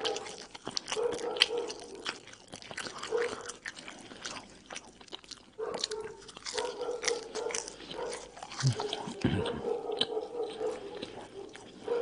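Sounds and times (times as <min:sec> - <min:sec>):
close-up chewing with wet smacks: 0:00.0 - 0:12.0.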